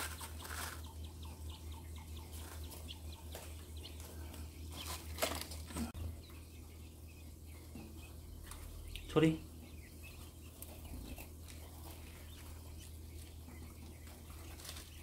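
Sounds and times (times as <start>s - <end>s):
low hum: 0.0s - 15.0s
quails peeping: 0.0s - 15.0s.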